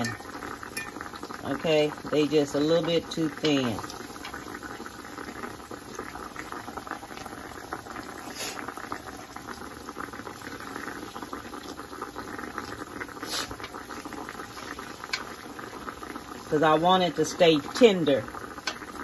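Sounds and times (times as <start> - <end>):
meat sizzling in hot grease: 0.0 - 19.0.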